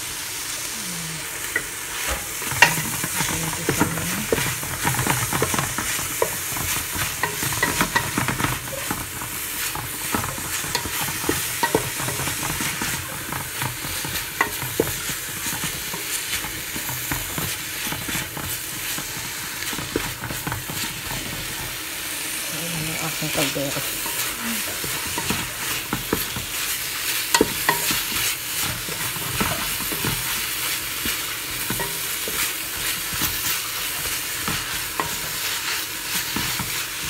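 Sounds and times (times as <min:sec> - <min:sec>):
meat and onion sizzling in oil: 0:00.0 - 0:37.0
spatula scraping and tapping pot: 0:01.4 - 0:21.8, 0:23.4 - 0:37.0.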